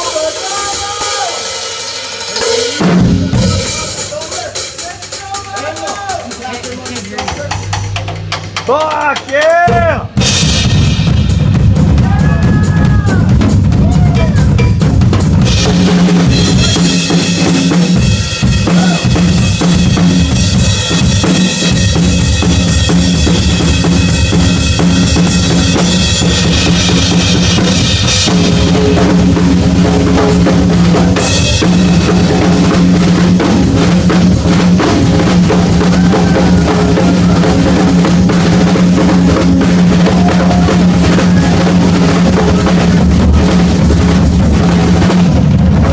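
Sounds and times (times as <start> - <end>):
cymbals crashing: 0.0 - 9.3, 10.1 - 45.5
bass drum and snare: 2.4 - 45.9.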